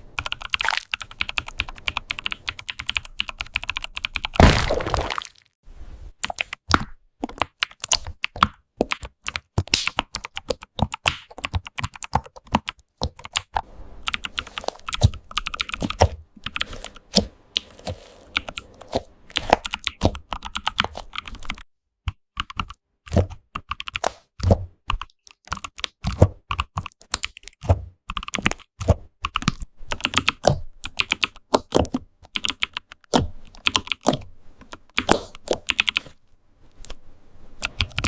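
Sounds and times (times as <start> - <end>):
keyboard typing: 0.2 - 4.4, 6.2 - 24.2, 24.9 - 36.2, 37.6 - 38.0.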